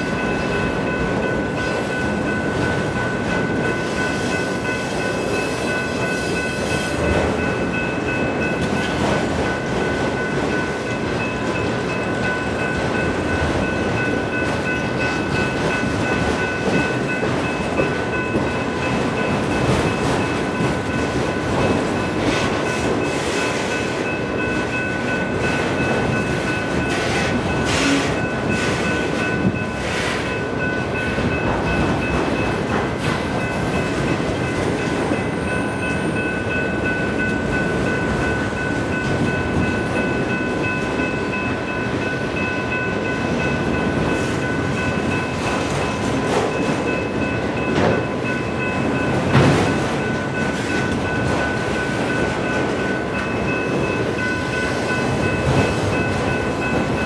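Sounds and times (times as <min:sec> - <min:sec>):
train clanks: 0:00.0 - 0:57.0
train wheels rumbling on rail: 0:00.0 - 0:57.0.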